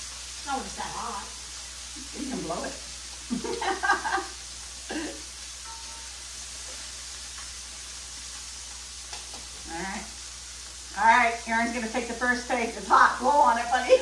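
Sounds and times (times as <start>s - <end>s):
fish fillets sizzling in skillet: 0.0s - 14.0s.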